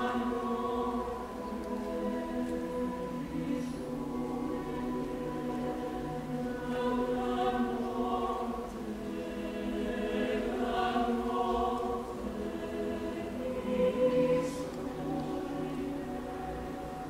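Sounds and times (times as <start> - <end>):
mixed choir singing a cappella: 0.0 - 17.0.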